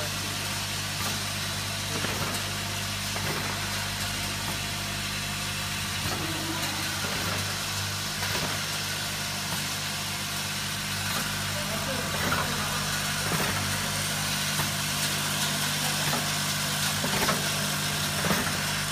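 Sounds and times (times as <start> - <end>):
electrical hum of bowl feeder: 0.0 - 18.9.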